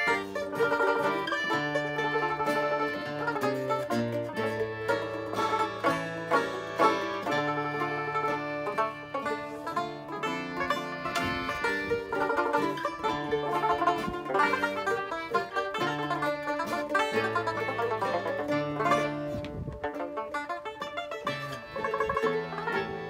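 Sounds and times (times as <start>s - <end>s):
concertina: 0.0s - 23.0s
mandolins picking melody: 0.0s - 23.0s
strummed acoustic guitar: 0.0s - 23.0s.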